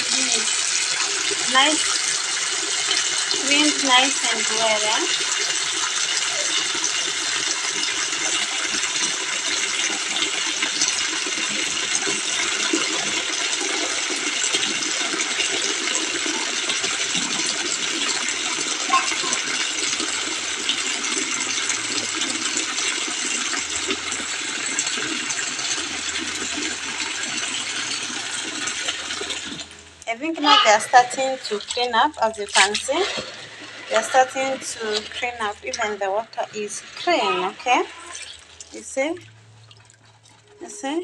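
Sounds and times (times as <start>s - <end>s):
tap water pouring into basin: 0.0s - 40.6s.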